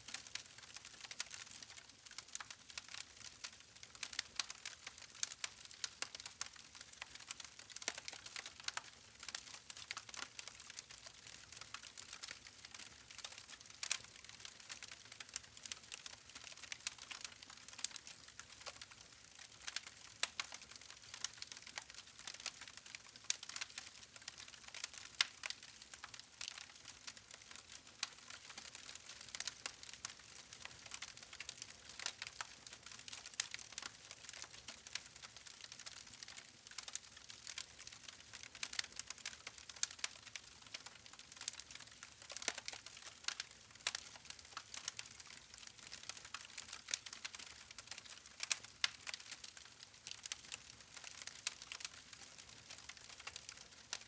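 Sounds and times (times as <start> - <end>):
wood fire crackling: 0.1 - 54.0.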